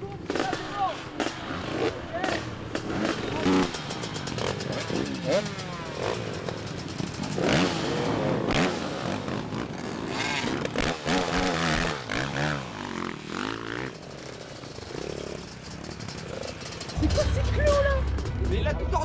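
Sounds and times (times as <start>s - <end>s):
motocross bike engines revving: 0.0s - 18.7s.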